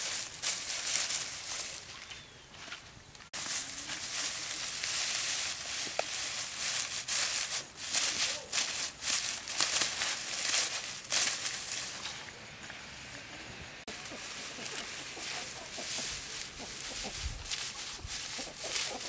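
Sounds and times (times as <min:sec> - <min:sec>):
dry straw rustling and crackling: 0:00.0 - 0:19.0.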